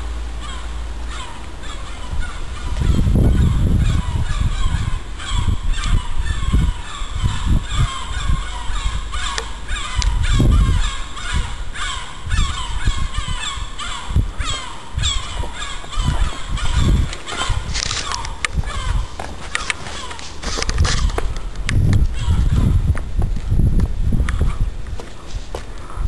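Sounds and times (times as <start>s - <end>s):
gulls calling: 0.0s - 23.0s.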